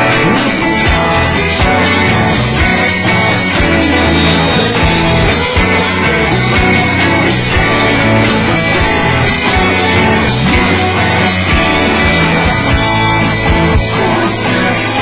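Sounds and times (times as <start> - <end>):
electric guitar rock jam: 0.0 - 15.0
steady drum beat: 0.0 - 15.0.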